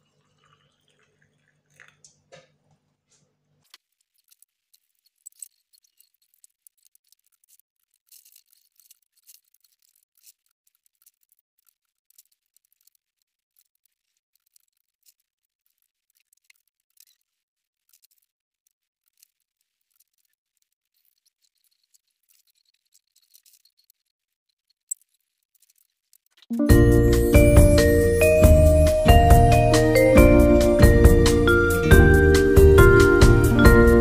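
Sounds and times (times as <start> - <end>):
tinsel rustling and crackling: 3.8 - 34.0.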